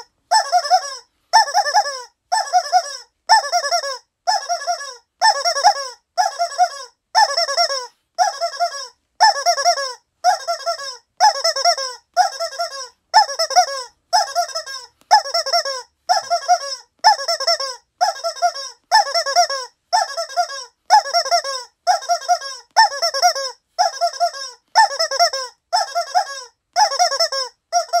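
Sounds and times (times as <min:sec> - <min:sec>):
rubber chicken toy squeaking: 0:00.0 - 0:28.0.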